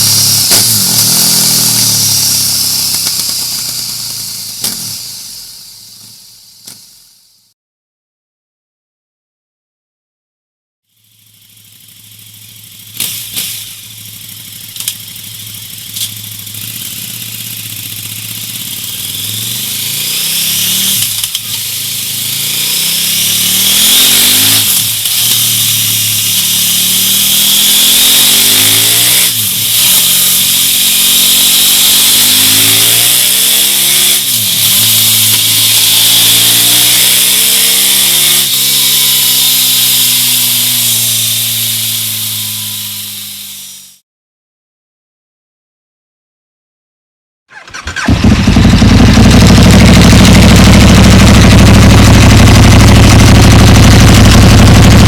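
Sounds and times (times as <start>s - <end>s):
exhaust pops: 0.0s - 7.0s, 12.3s - 43.0s, 47.5s - 55.0s
motorcycle engine revving: 0.0s - 7.0s, 10.9s - 44.0s, 47.5s - 55.0s.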